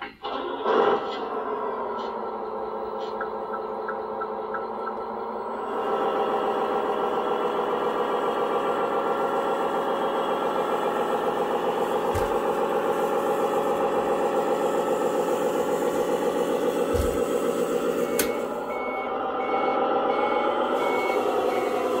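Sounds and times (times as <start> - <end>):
simulated truck engine: 0.0 - 22.0.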